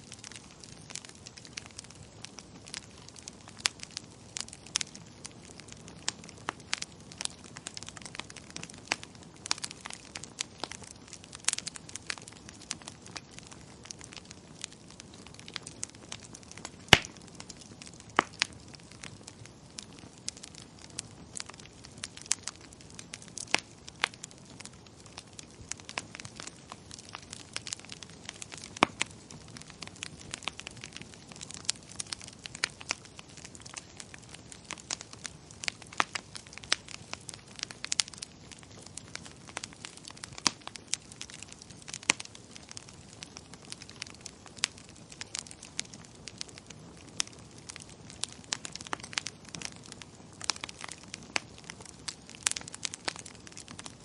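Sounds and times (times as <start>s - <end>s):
low fire hiss: 0.0s - 54.0s
wood fire crackling and popping: 0.0s - 54.0s.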